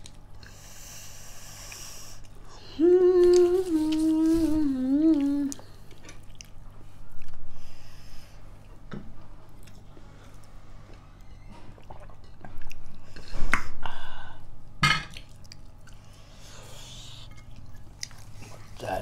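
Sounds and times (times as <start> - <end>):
close chewing and eating: 0.0 - 19.0.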